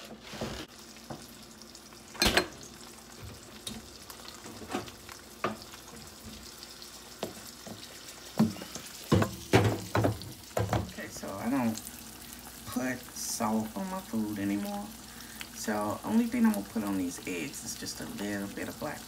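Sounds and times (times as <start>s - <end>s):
eggs sizzling in a pan: 0.0s - 19.0s.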